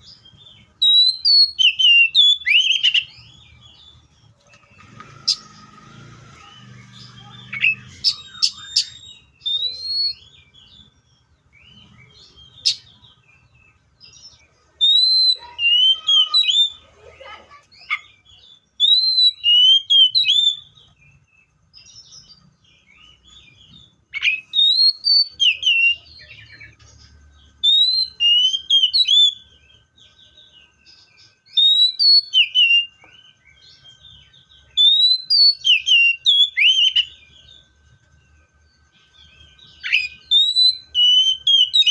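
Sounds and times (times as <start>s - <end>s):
bird singing whistled notes: 0.0s - 16.8s, 17.8s - 41.9s.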